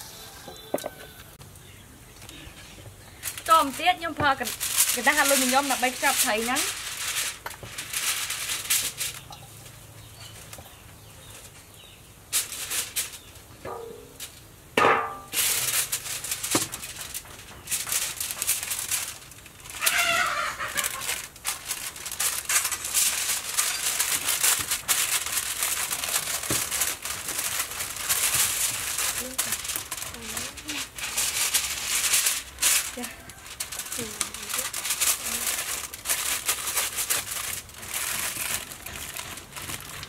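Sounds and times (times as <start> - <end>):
aluminium foil crinkling: 1.6 - 40.0.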